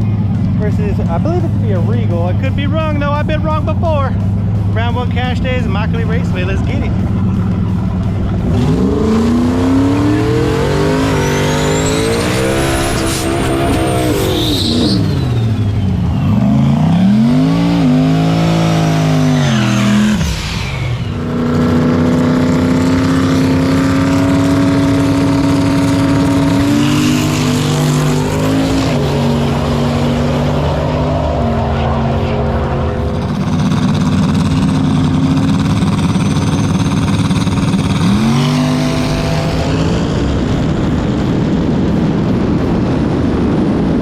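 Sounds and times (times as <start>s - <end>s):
racing car engines revving: 0.0s - 44.0s.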